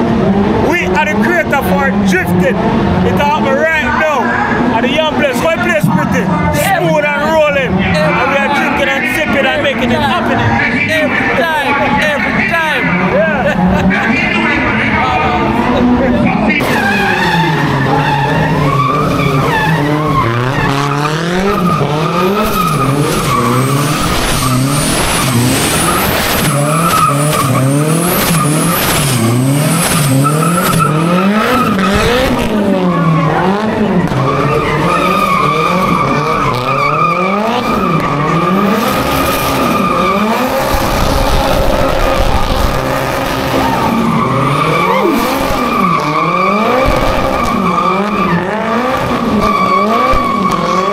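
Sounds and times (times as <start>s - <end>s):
car engine revving: 0.0s - 50.9s
high tire squeal: 0.6s - 50.9s.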